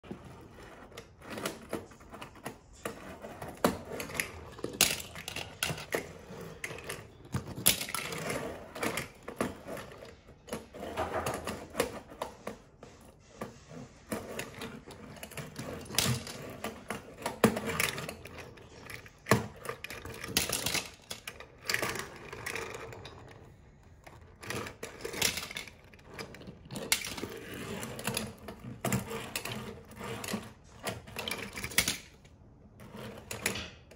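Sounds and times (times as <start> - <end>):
toy cars clattering on wooden table: 0.1 - 12.7, 13.4 - 33.9.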